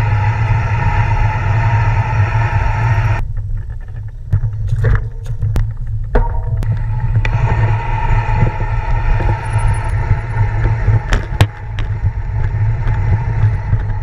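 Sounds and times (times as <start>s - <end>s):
road noise: 0.0s - 3.4s, 4.1s - 14.0s
wind on microphone: 0.0s - 14.0s.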